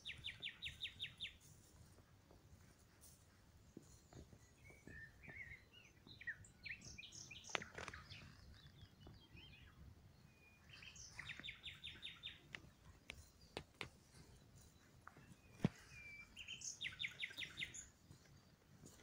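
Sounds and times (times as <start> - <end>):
songbirds chirping and whistling: 0.0 - 19.0.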